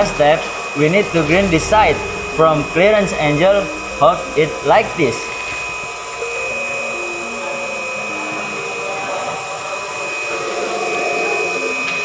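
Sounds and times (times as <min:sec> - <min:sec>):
bench grinder whining: 0:00.0 - 0:12.0.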